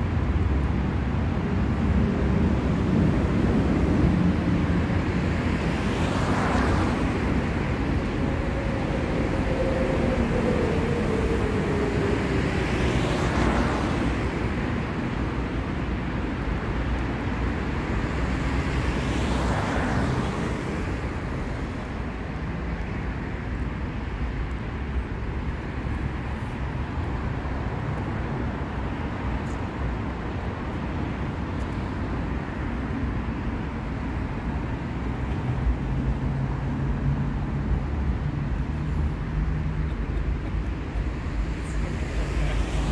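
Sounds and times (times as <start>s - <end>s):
low traffic rumble: 0.0s - 42.9s
vehicles passing close by: 0.0s - 42.9s.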